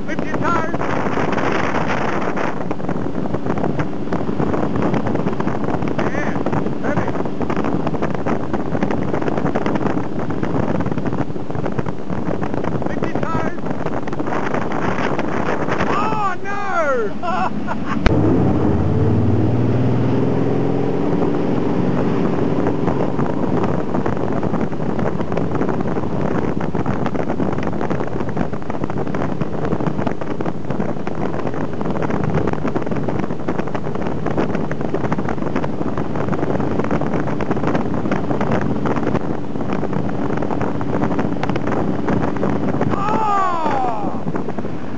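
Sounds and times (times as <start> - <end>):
boat engine running: 0.0 - 44.9
wake and spray rushing: 0.0 - 44.9
wind buffeting microphone: 0.0 - 44.9.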